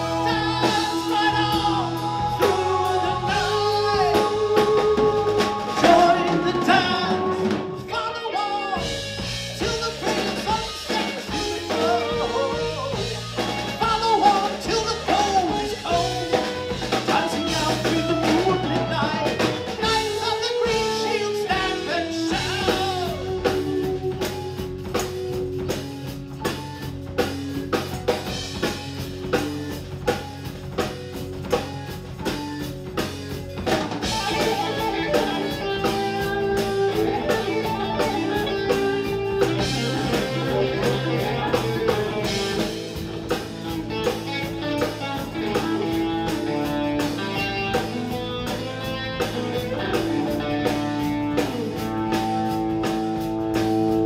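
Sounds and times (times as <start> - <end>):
electric guitar lead lines: 0.0 - 54.0
live rock band playing: 0.0 - 54.0.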